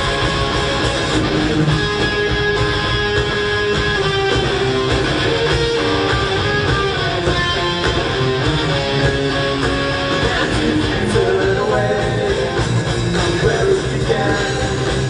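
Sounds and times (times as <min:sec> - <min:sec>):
drums: 0:00.0 - 0:15.0
electric guitar line: 0:00.0 - 0:15.0
strummed guitar chords: 0:00.0 - 0:15.0.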